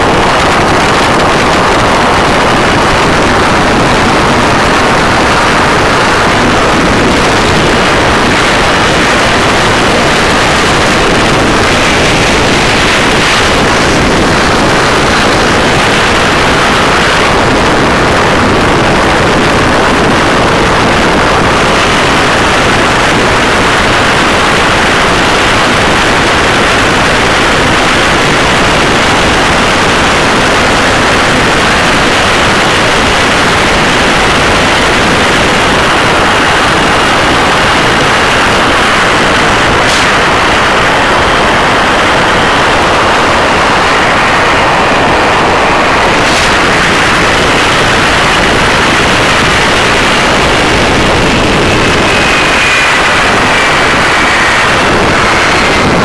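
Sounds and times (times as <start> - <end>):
boat engine distorted roar: 0.0 - 56.0
wind and spray: 0.0 - 56.0.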